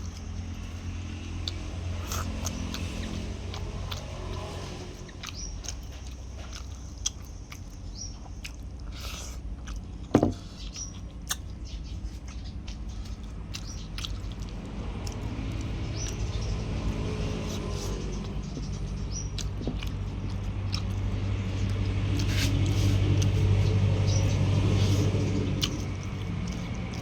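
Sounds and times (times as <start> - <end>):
chewing and biting food: 0.0 - 27.0.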